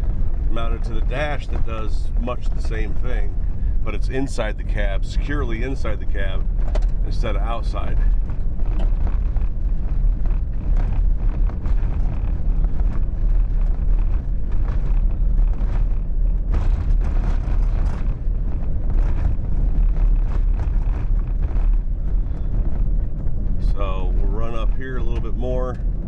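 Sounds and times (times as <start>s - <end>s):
crackles: 0.0s - 26.0s
truck road and wind rumble: 0.0s - 26.0s.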